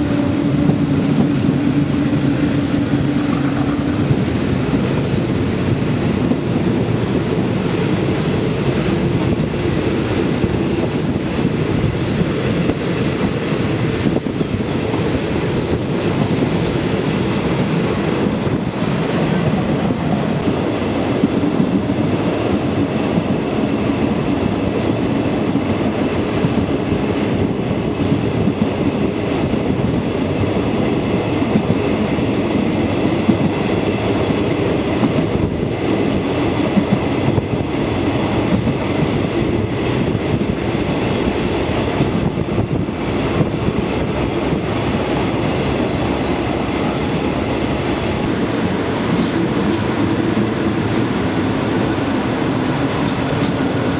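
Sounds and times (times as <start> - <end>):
train rumbling and rattling: 0.0 - 53.9.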